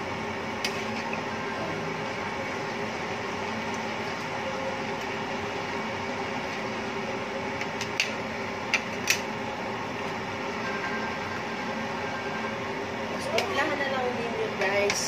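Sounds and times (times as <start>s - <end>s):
whirring hum: 0.0s - 15.0s.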